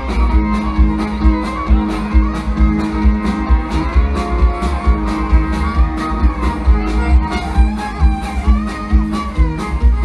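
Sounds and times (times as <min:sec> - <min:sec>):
live country band music: 0:00.0 - 0:10.0.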